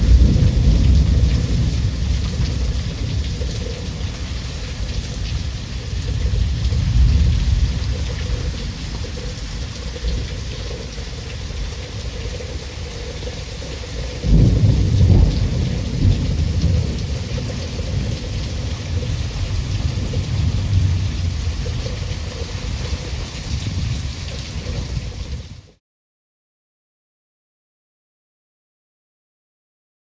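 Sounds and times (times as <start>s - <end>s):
thunder rumbling: 0.0s - 25.6s
steady rain hissing: 0.0s - 25.8s.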